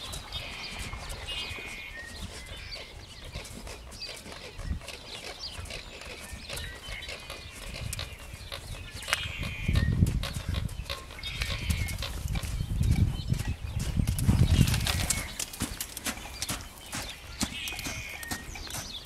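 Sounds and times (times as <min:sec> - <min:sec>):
horse hoofbeats in deep sand: 0:00.0 - 0:19.0.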